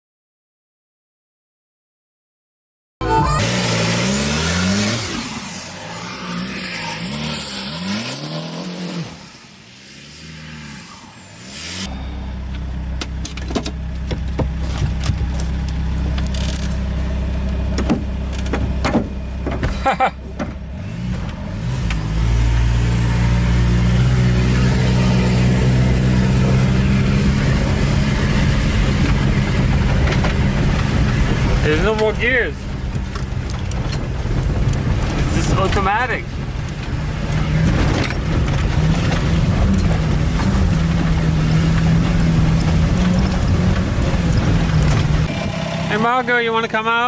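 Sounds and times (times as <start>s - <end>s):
diesel engine revving: 3.0s - 47.0s.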